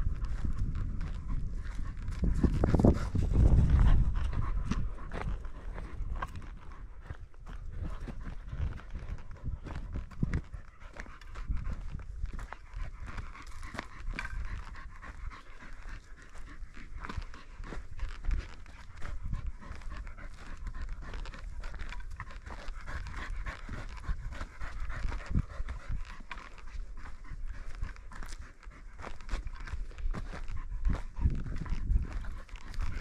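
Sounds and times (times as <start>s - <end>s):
footsteps crunching on loose soil: 0.0s - 33.0s
panting: 0.0s - 33.0s.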